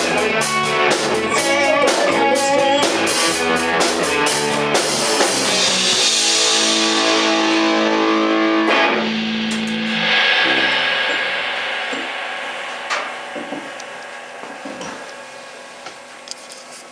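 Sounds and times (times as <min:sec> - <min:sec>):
electric guitar and bass chord: 0:00.0 - 0:16.5
cymbal wash: 0:00.0 - 0:16.9.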